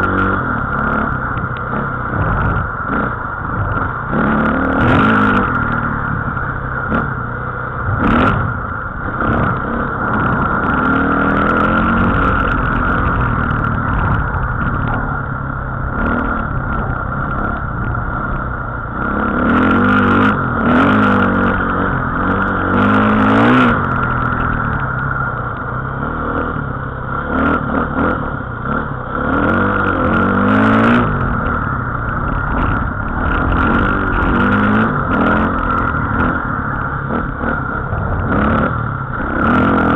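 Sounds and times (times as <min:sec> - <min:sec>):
dirt bike engine revving: 0:00.0 - 0:39.9
steady high whine: 0:00.0 - 0:39.9.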